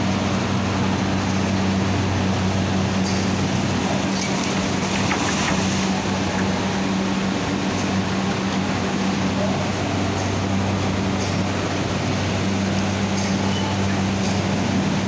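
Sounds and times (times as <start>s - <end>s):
machinery low hum: 0.0s - 15.0s.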